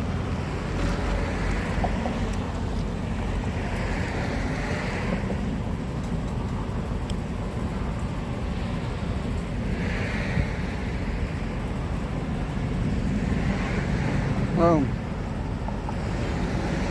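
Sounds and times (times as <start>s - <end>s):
street background rumble: 0.0s - 16.9s.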